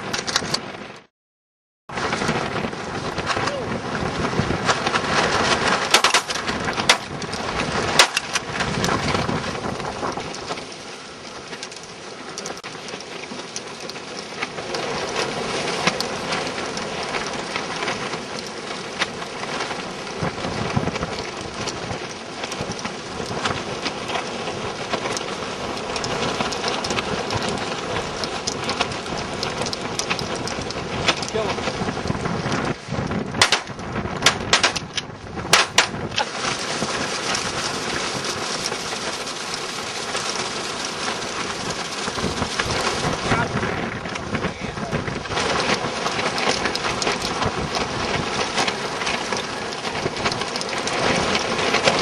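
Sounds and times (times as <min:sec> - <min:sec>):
sharp cracks: 0:02.0 - 0:52.0.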